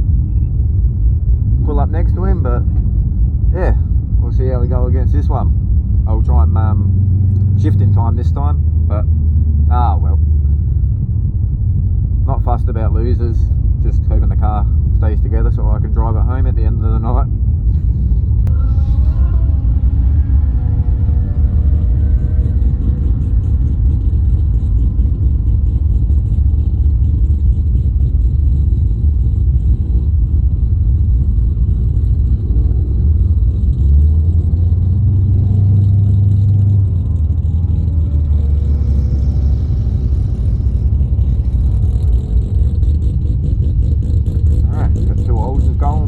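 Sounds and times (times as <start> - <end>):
car engine low rumble: 0.0 - 46.0.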